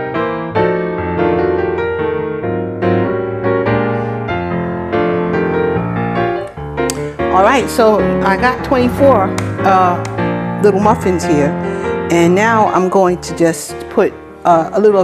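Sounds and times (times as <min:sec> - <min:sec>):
keyboard playing notes and chords: 0:00.0 - 0:15.0.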